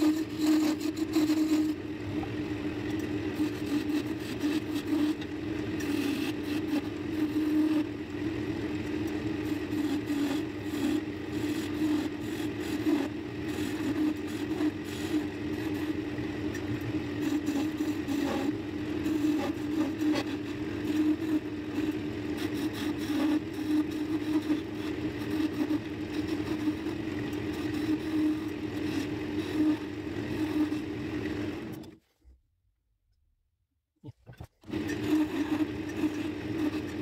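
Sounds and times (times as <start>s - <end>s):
turning tool scraping wood: 0.0s - 1.8s, 2.9s - 7.9s, 8.8s - 31.0s, 34.6s - 37.0s
wood lathe humming: 0.0s - 31.9s, 34.6s - 37.0s.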